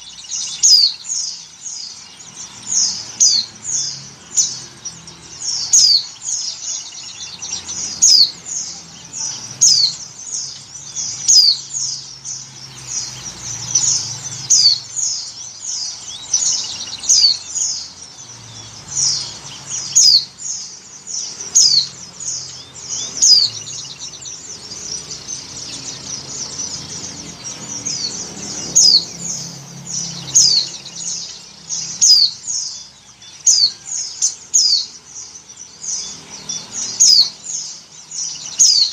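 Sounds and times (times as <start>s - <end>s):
bird chirping: 0.0s - 38.9s
soft fast bird twittering: 0.0s - 38.9s.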